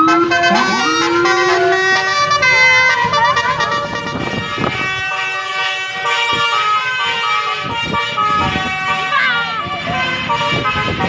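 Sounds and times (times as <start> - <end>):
multi-tone bus horn blaring: 0.0 - 11.0.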